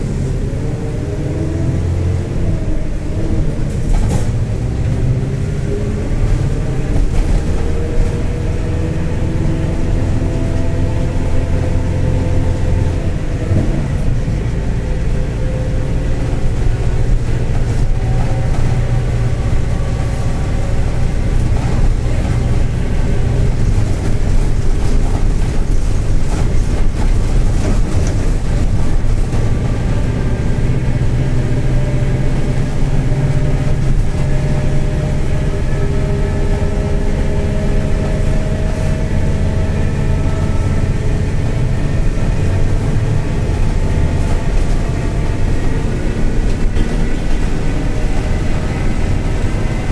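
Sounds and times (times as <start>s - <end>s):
diesel bus engine running: 0.0s - 49.9s.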